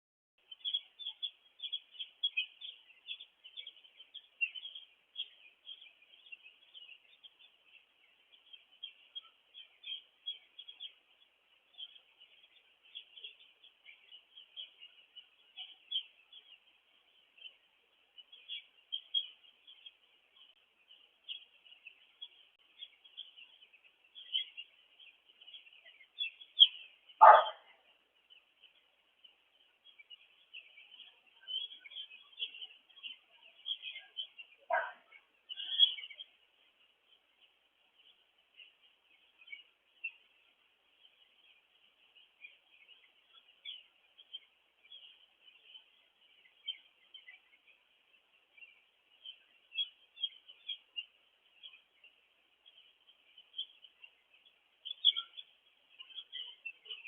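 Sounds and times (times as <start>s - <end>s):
chicks peeping: 0.5s - 57.0s.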